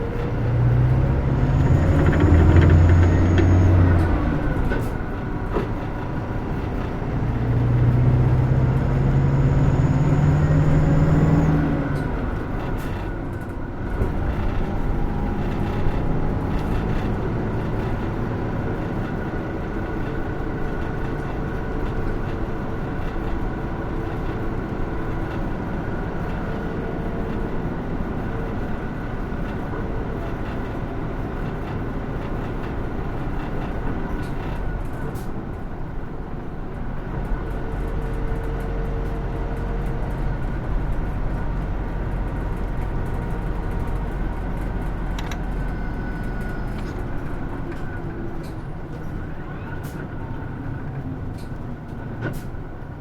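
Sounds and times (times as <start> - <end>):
bus engine drone: 0.0 - 53.0
road rumble: 0.0 - 53.0.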